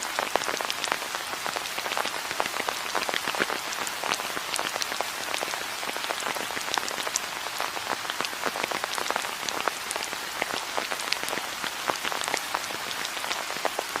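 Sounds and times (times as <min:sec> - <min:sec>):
rain drop impacts: 0:00.0 - 0:14.0
rain falling: 0:00.0 - 0:14.0.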